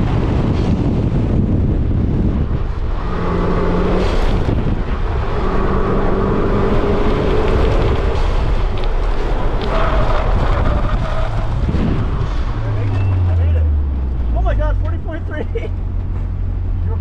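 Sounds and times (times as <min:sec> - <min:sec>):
car engine revving: 0:00.0 - 0:17.0
wind buffeting microphone: 0:00.0 - 0:17.0.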